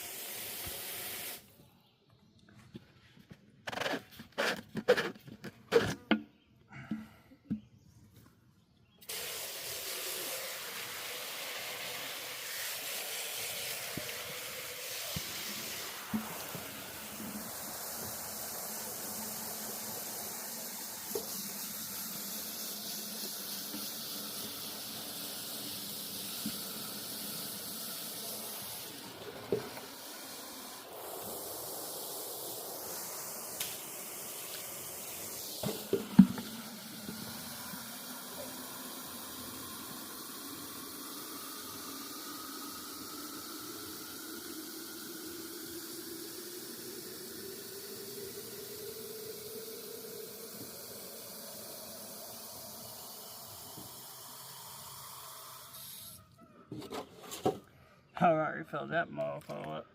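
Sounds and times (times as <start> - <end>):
hose spraying water into container: 0.0 - 1.5, 3.7 - 6.0, 9.0 - 56.2.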